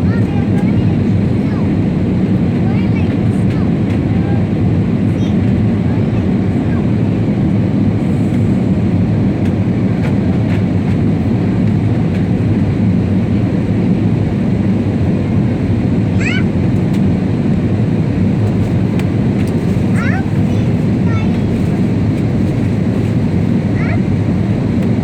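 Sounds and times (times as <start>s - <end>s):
airliner cabin engine and airflow noise: 0.0s - 25.0s.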